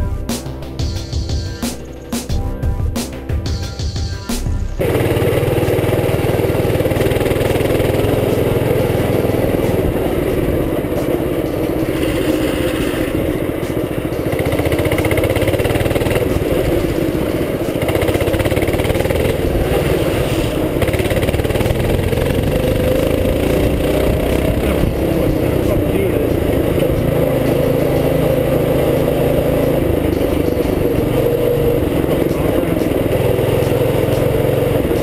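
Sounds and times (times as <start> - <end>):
small motorbike engine running: 4.8 - 35.0.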